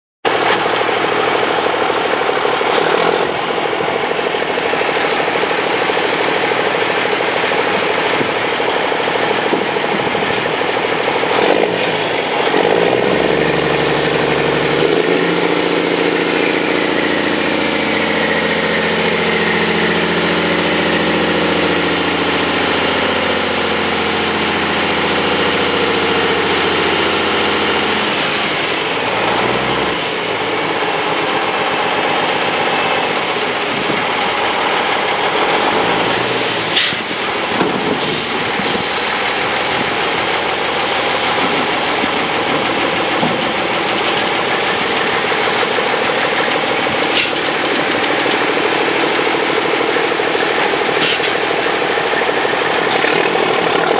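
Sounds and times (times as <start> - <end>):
diesel truck engine running: 0.2 - 53.9
hydraulic hoist drone: 0.3 - 53.9.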